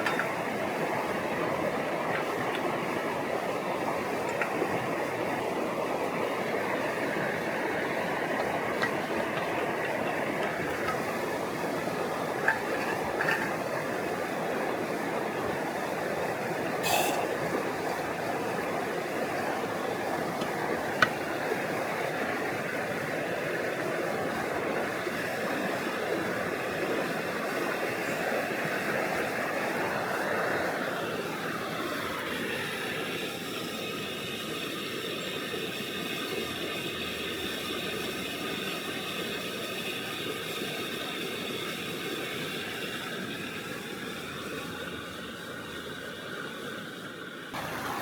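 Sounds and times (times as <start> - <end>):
river water rushing: 0.0 - 48.0.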